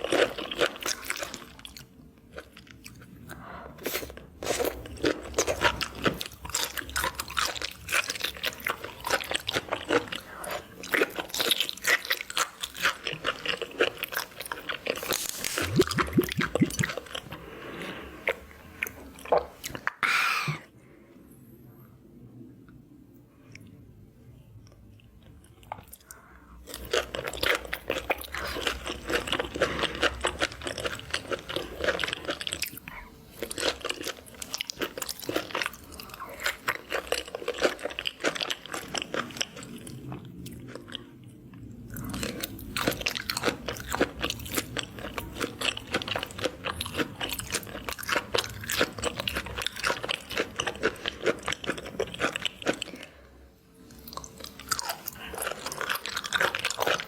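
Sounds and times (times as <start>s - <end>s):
crunching and chewing seafood: 0.0s - 20.0s, 24.6s - 57.0s.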